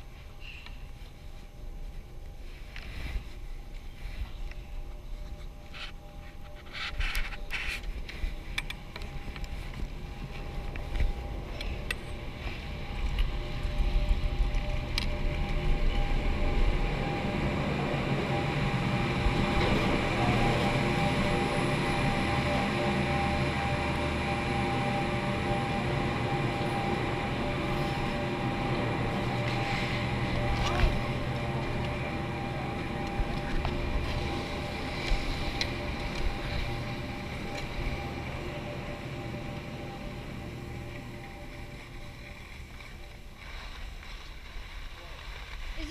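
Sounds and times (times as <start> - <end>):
chairlift mechanical hum: 0.0 - 45.9
wind rumbling on microphone: 0.0 - 45.9.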